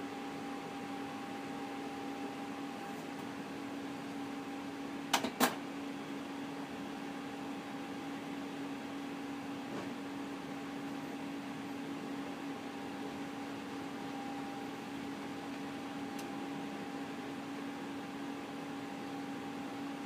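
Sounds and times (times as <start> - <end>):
printer motor hum: 0.0 - 20.0.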